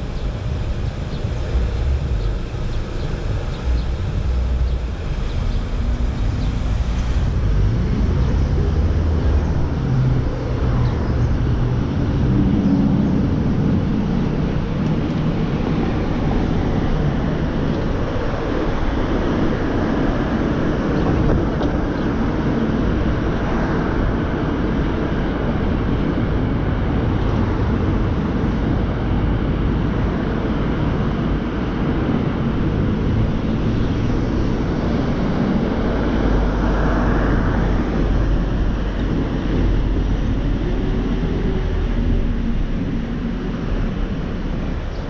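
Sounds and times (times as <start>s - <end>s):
car engine and tyre noise: 0.0s - 45.0s.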